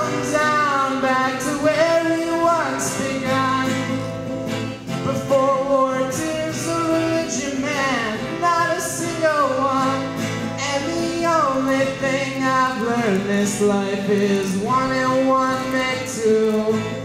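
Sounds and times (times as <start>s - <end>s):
man singing folk song: 0.0s - 17.0s
strummed acoustic guitar: 0.0s - 17.0s.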